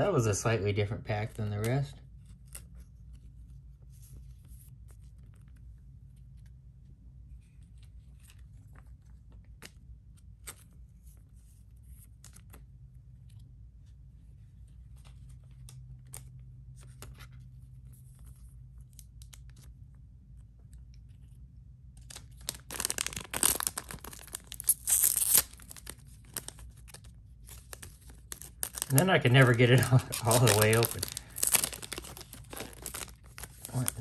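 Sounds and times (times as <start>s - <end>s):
low steady hum: 0.0s - 34.0s
plastic card sleeves rustling: 1.2s - 34.0s.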